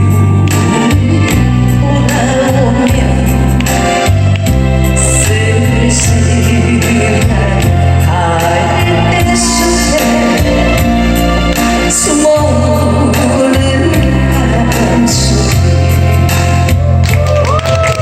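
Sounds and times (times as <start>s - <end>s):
woman singing ballad: 0.0s - 16.8s
bass: 0.0s - 18.0s.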